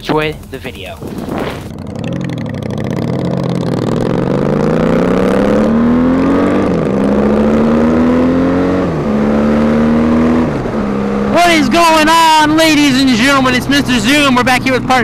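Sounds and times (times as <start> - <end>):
motorcycle engine accelerating: 1.0 - 15.0.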